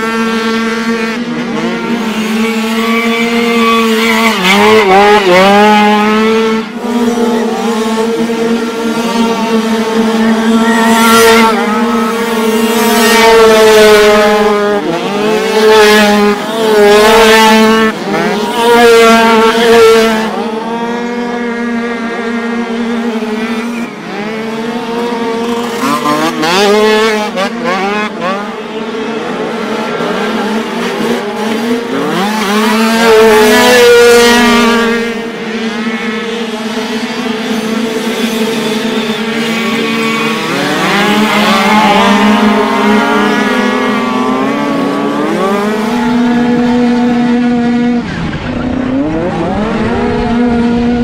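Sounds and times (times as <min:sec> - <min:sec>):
dirt bike engines revving: 0:00.0 - 0:51.0
steady engine drone: 0:00.0 - 0:51.0.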